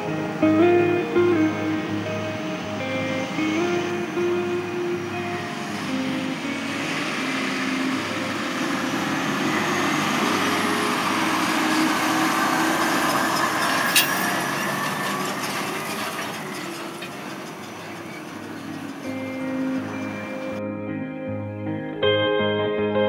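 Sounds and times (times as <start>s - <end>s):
tractor engine running under load: 0.0s - 20.6s.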